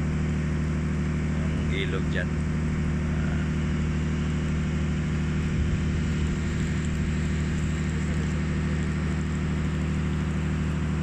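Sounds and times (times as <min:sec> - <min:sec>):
boat engine droning: 0:00.0 - 0:11.0
wind: 0:00.0 - 0:11.0
water rushing: 0:01.4 - 0:11.0.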